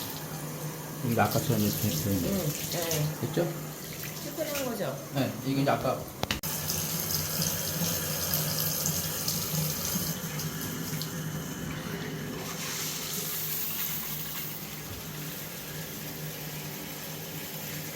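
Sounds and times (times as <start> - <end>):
shower water running: 0.0 - 17.9.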